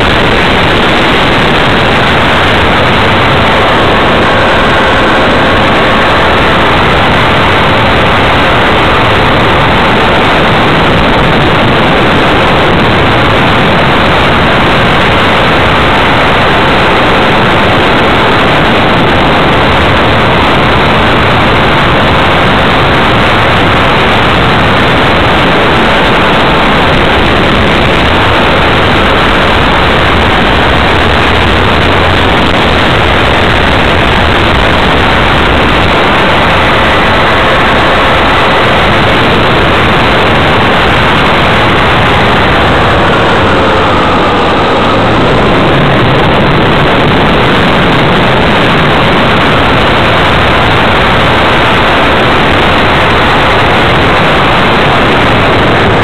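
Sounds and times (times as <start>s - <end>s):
faint propeller whine: 0.0s - 56.0s
rushing air and motor noise: 0.0s - 56.0s.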